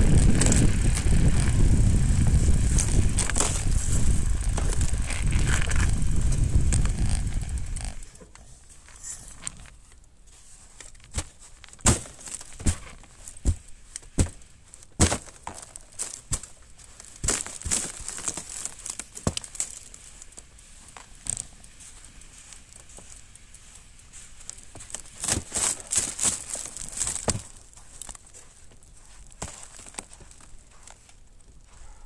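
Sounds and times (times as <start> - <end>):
bike knocks and rattles: 0.0 - 9.8, 10.8 - 23.4, 24.0 - 31.0
bike tyres crunching snow: 0.0 - 32.0.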